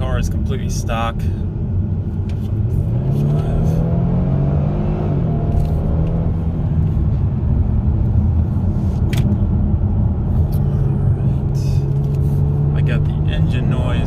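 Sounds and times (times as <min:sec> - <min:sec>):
road noise: 0:00.0 - 0:14.0
car engine accelerating: 0:01.6 - 0:14.0.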